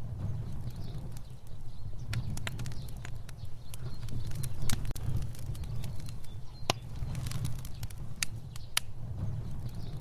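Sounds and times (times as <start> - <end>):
fire crackling and popping: 0.0 - 10.0
wood fire rumbling: 0.0 - 10.0.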